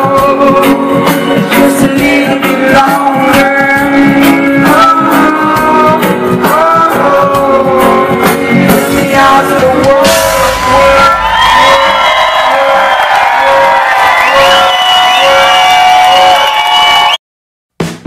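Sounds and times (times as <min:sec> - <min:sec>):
live reggae band: 0:00.0 - 0:17.2.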